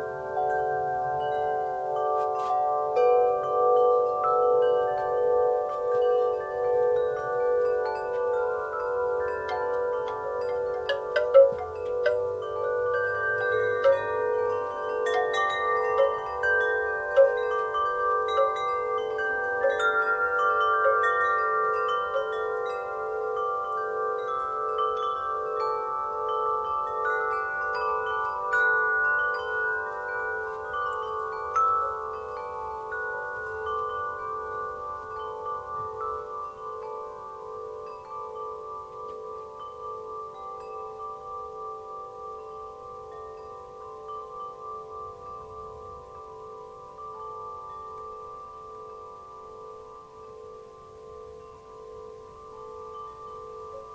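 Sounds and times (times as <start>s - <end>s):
wind chimes ringing: 0.0s - 53.9s.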